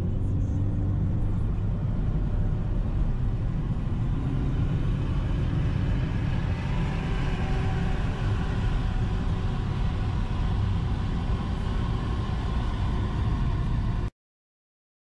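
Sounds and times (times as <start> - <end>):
car engine drone in cabin: 0.0 - 14.1.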